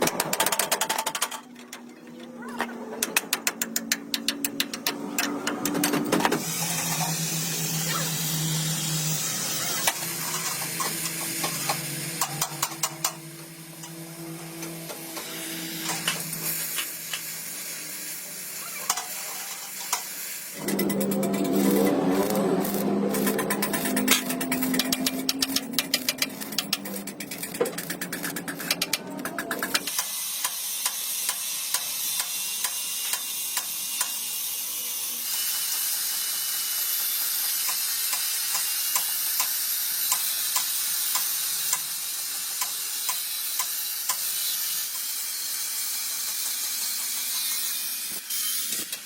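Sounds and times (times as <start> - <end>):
arc welding crackle and sizzle: 6.4 - 49.0.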